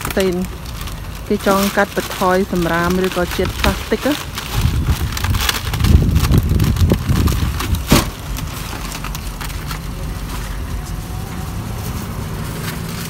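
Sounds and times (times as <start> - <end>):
parking lot hum: 0.0 - 13.0
plastic bags rustling: 0.0 - 13.0
shopping cart rumbling and clicking: 0.0 - 13.0.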